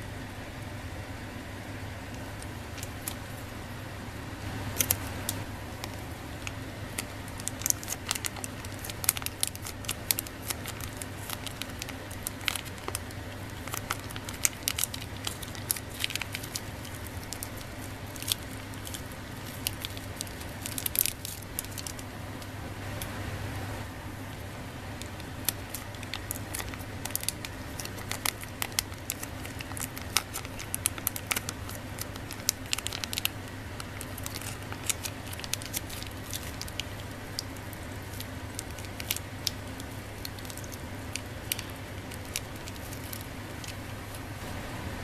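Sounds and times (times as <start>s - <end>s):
steady low hum: 0.0s - 45.0s
plastic sachet crinkling and tearing: 2.2s - 3.5s, 4.7s - 22.5s, 24.3s - 44.4s.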